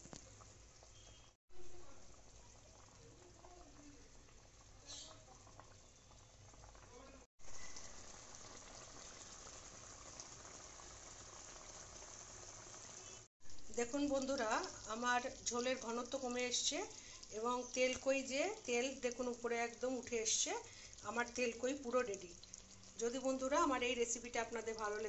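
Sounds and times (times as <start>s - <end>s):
curry boiling with bubbling hiss: 0.0s - 25.0s.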